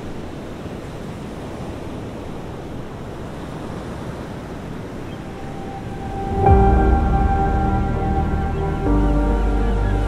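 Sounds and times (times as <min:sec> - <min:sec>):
sea surf rushing: 0:00.0 - 0:10.0
wind: 0:00.0 - 0:10.0.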